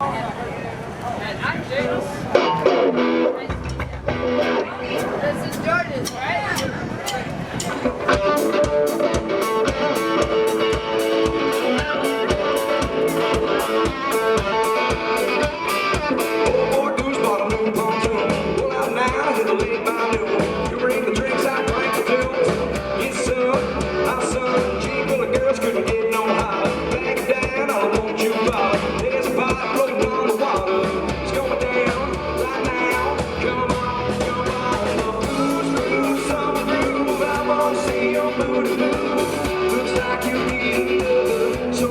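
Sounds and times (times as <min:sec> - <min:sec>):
drums at a steady beat: 0:01.6 - 0:41.9
electric guitar: 0:01.9 - 0:06.0, 0:06.6 - 0:41.9
person singing: 0:08.1 - 0:41.9.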